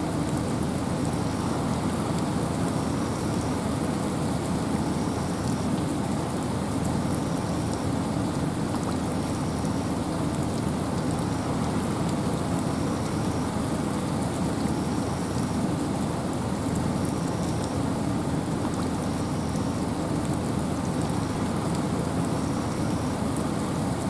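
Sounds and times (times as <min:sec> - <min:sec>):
rain in a forest: 0:00.0 - 0:24.0
wind: 0:00.0 - 0:24.0.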